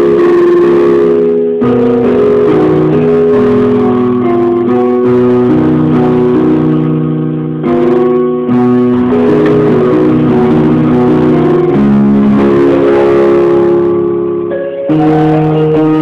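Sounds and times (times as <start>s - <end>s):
electronic keyboard melody: 0.0s - 16.0s.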